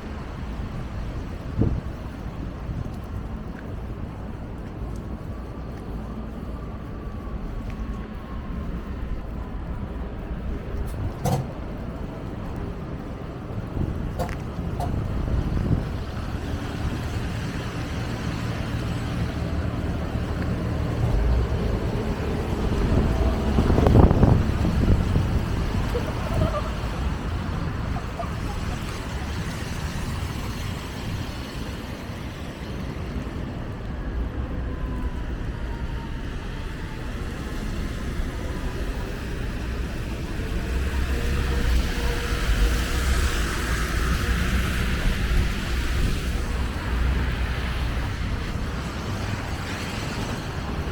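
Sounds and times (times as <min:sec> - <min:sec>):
city street traffic rumble: 0:00.0 - 0:50.9.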